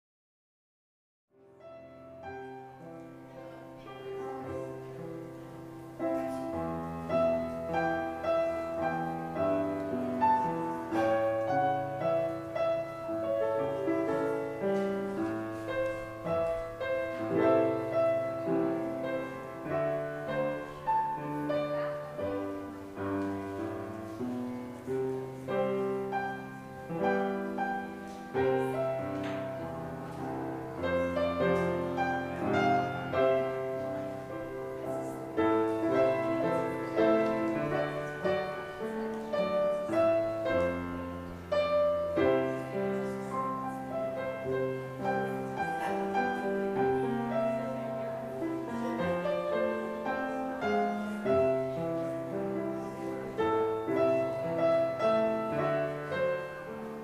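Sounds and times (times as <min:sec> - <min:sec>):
solo piano music: 0:01.3 - 0:57.0.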